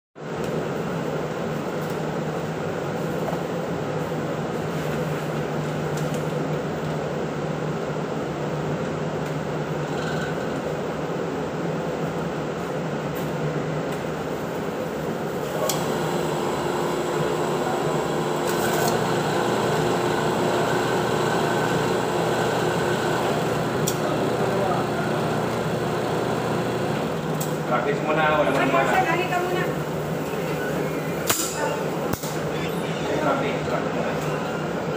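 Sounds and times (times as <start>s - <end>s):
ventilation blower humming: 0.2s - 34.9s.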